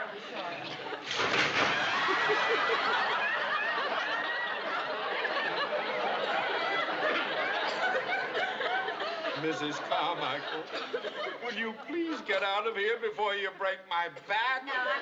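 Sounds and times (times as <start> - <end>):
audience laughing: 0.0 - 12.7.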